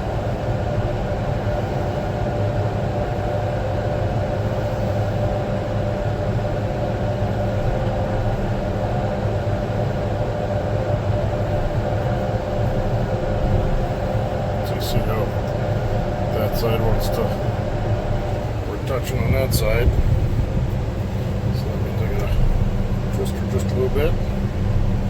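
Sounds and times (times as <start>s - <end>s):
bulldozer diesel engine running: 2.8s - 25.0s.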